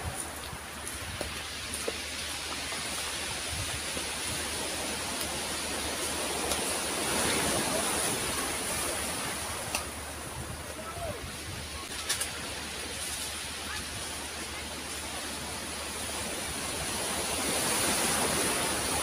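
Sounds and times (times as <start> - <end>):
surf washing onto pebbles: 0.0 - 19.0.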